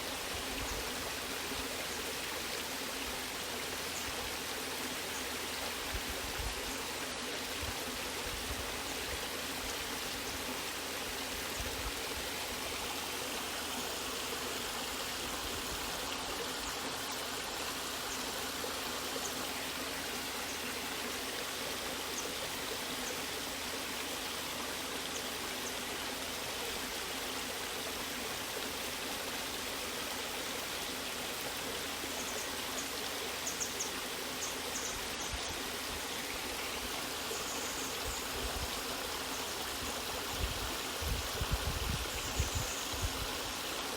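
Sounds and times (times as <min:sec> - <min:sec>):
waterfall and stream rushing: 0:00.0 - 0:43.9.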